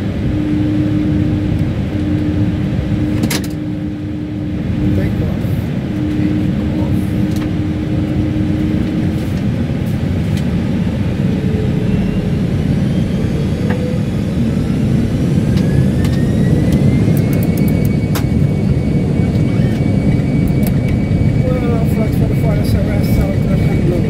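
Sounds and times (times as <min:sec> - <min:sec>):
engine whine rising: 0:00.0 - 0:24.0
jet engines rumbling: 0:00.0 - 0:24.0.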